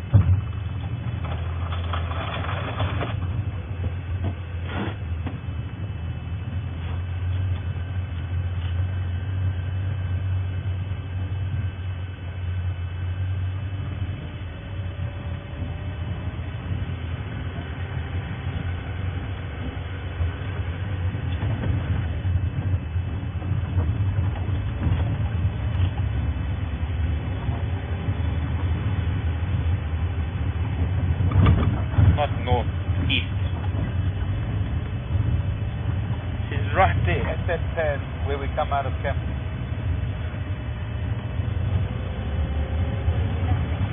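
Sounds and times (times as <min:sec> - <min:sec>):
road and rattle noise: 0:00.0 - 0:43.9
vehicle engine rumbling: 0:00.0 - 0:43.9.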